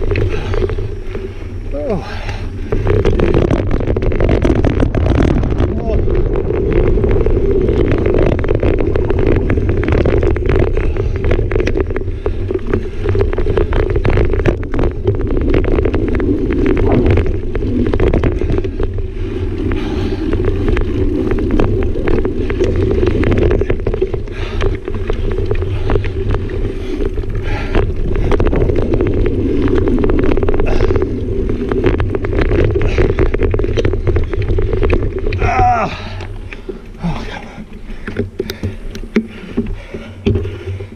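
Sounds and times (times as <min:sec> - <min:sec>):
bike clicks and rattles over bumps: 0:00.0 - 0:40.9
knobby bike tyres rolling on dirt: 0:00.0 - 0:40.9
wind buffeting microphone: 0:00.0 - 0:40.9.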